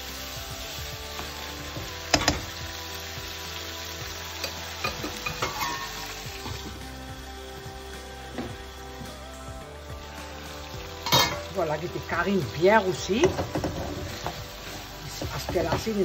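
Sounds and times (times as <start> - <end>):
curry sizzling in a pan: 0.0 - 16.0.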